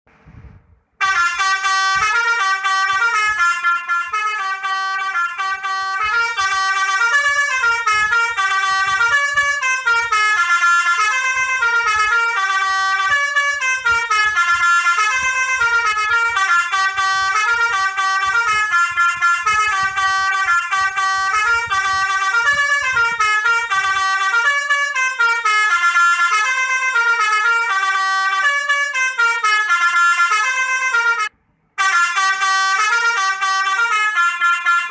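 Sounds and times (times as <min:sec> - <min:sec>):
musical horn playing melody: 0:01.0 - 0:34.9.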